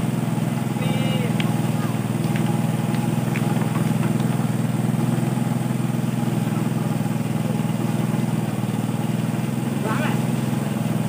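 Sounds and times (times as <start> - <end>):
water pump engine chugging: 0.0 - 11.0.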